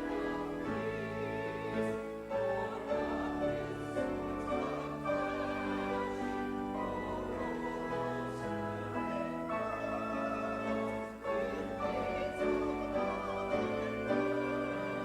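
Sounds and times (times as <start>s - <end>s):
congregation singing a hymn: 0.0s - 15.0s
instrumental accompaniment: 0.0s - 15.0s.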